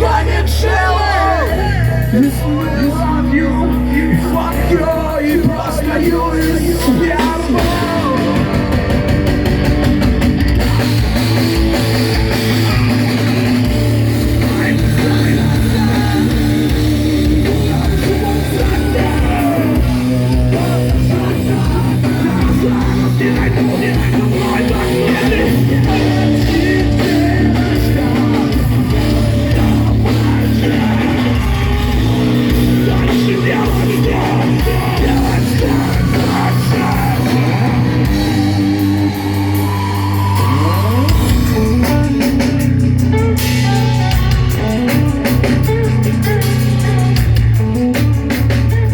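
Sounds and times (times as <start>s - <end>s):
rock band playing heavy rock: 0.0s - 48.9s.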